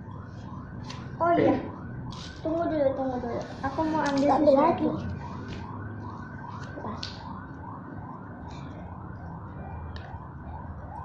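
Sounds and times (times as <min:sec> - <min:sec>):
siren yelping: 0:00.0 - 0:11.0.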